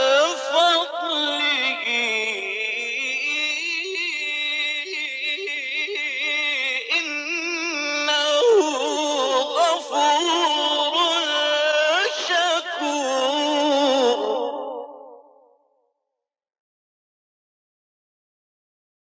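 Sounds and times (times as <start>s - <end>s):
man chanting melodically: 0.0s - 15.4s.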